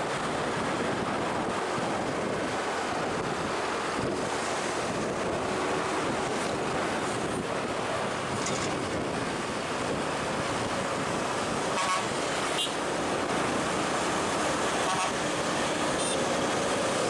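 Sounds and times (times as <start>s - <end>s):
traffic noise: 0.0s - 17.0s
vehicle engine: 0.0s - 17.0s
wind on microphone: 0.0s - 17.0s.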